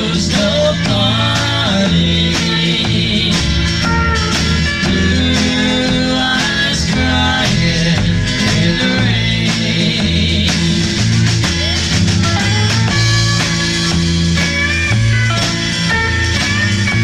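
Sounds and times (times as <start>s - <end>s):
country ballad band music: 0.0s - 17.0s.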